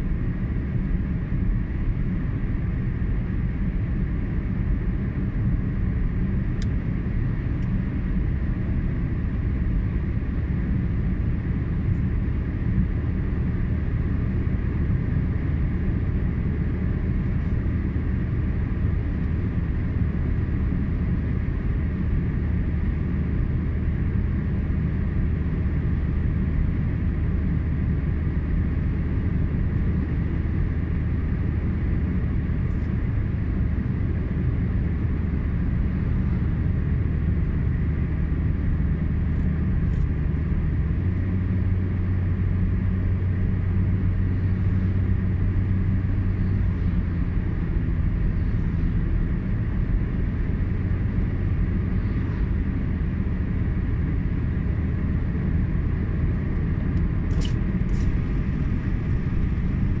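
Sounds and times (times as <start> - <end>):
car road noise from inside cabin: 0.0 - 60.0.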